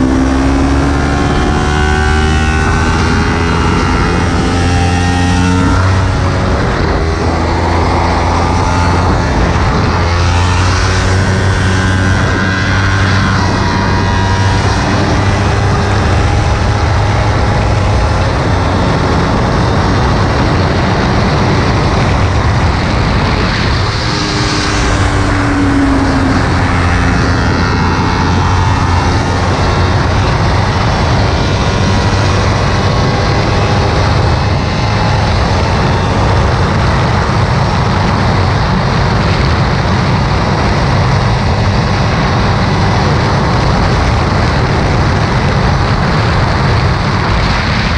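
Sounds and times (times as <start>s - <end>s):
motorcycle engine running hard: 0.0s - 47.9s
wind rush on microphone: 0.0s - 47.9s.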